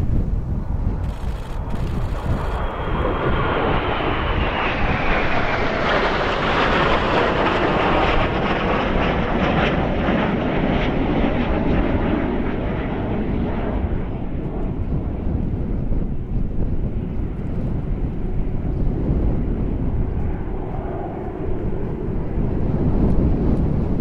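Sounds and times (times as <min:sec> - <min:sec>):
high jet engine whine: 0:00.0 - 0:24.0
jet aircraft passing overhead: 0:00.0 - 0:24.0.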